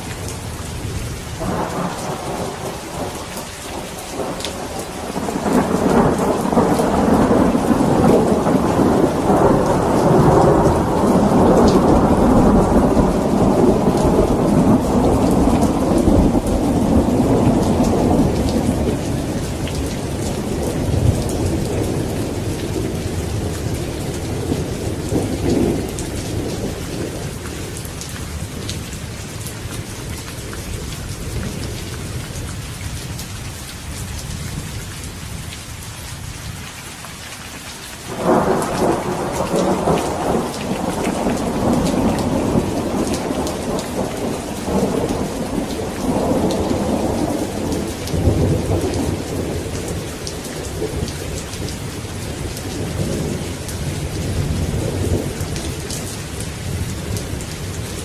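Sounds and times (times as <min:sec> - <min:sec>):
steady rain falling: 0:00.0 - 0:58.0
thunder rumbling: 0:00.8 - 0:28.9, 0:38.1 - 0:58.0.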